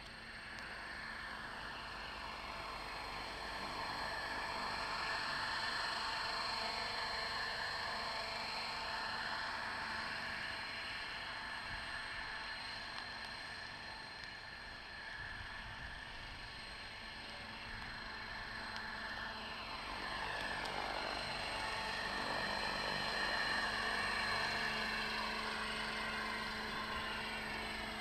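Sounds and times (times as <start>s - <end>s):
rc helicopter motor and rotor whir: 0.0s - 28.0s.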